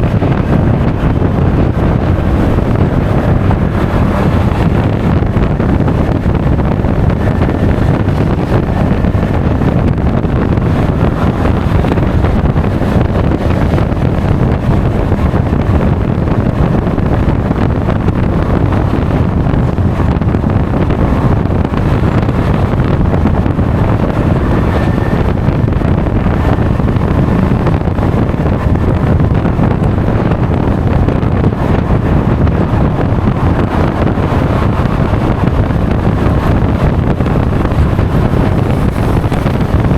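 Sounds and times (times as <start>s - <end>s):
scooter engine and road noise: 0.0s - 39.9s
wind buffeting microphone: 0.0s - 39.9s.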